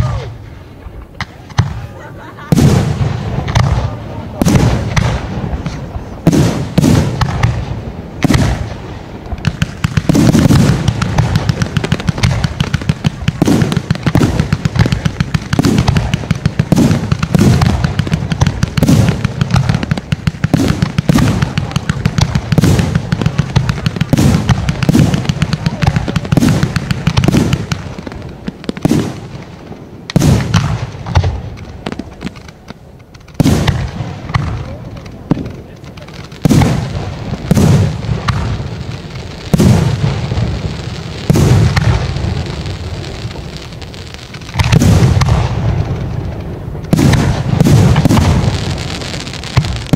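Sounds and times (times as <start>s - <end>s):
sharp firework cracks: 0.0s - 49.9s
firework shells bursting: 2.5s - 49.9s.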